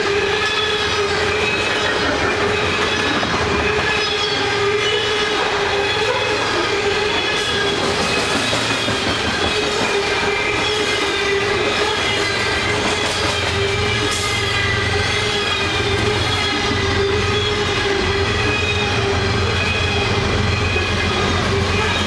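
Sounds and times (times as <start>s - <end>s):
train rumbling past: 0.0s - 22.0s
train wheels squealing on rails: 0.0s - 22.0s.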